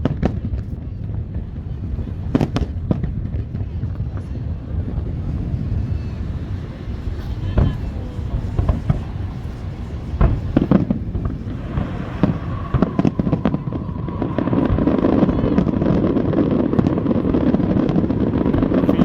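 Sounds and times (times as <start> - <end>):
fireworks bangs: 0.0 - 19.0
fireworks crackling rumble: 0.0 - 19.0.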